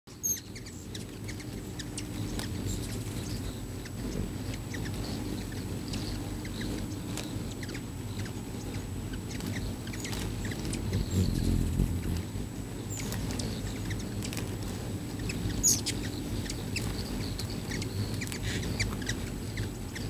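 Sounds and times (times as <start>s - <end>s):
hummingbird wingbeats humming: 0.1s - 20.0s
hummingbirds chirping and squeaking: 0.1s - 20.0s.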